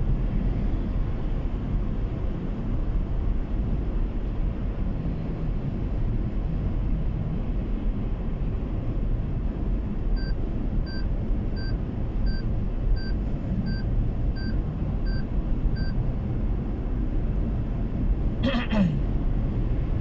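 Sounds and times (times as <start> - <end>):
car cabin road rumble: 0.0 - 20.0.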